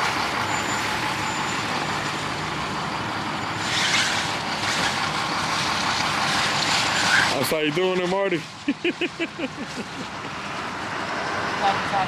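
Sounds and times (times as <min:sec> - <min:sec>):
background traffic: 0:00.0 - 0:12.0.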